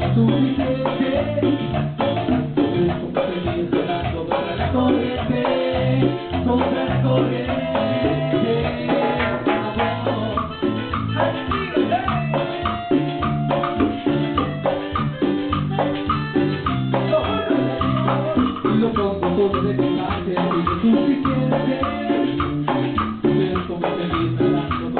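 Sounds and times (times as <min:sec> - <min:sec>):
live band playing dance music: 0:00.0 - 0:24.9.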